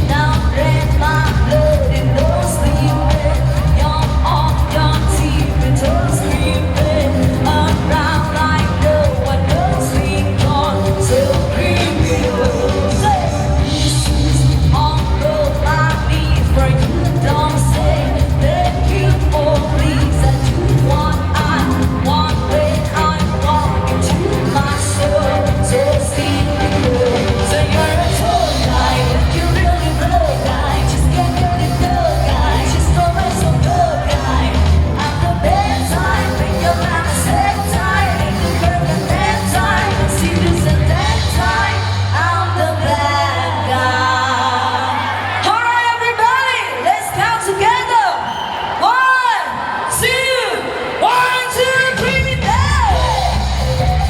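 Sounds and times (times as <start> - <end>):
person singing: 0.0 - 48.0, 50.0 - 54.0
live pop-rock band: 0.0 - 54.0.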